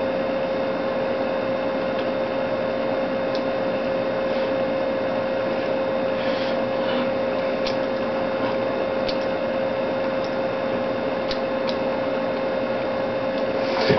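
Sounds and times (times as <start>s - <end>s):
steady hum tone: 0.0s - 13.9s.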